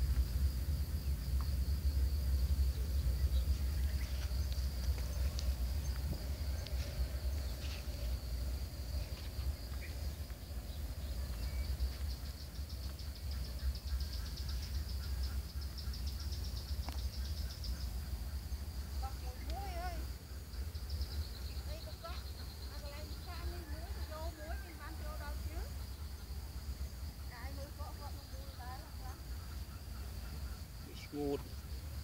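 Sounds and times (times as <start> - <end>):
constant low rumble: 0.0 - 32.0
insects trilling: 0.0 - 32.0.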